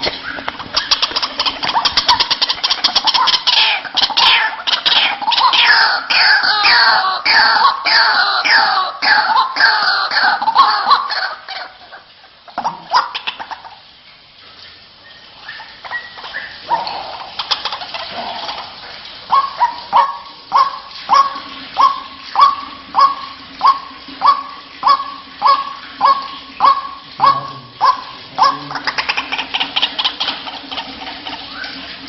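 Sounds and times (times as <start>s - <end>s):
waterhen calling: 0.0s - 32.0s.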